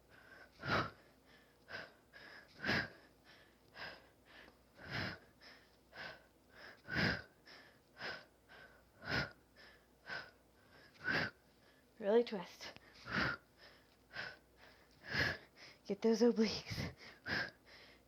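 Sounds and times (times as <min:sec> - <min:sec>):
hard rhythmic breathing: 0:00.0 - 0:18.0.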